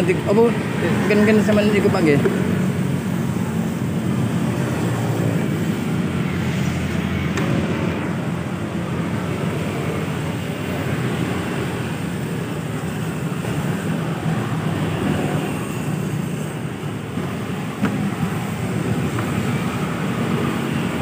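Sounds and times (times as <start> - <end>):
road vehicle rumble with hiss: 0.0 - 21.0.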